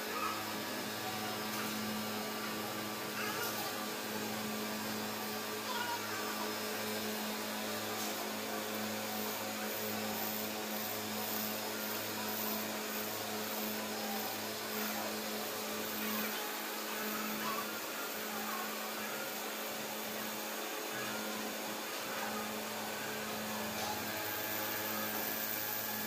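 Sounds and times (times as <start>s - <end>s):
glass polishing machine humming: 0.0s - 26.0s.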